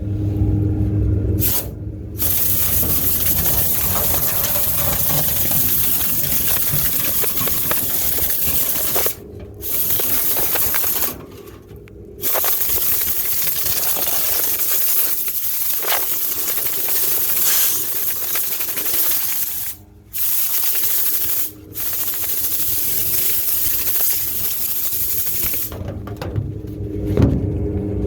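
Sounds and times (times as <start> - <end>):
hissing rush of air in duct: 1.4 - 11.2, 12.2 - 25.8.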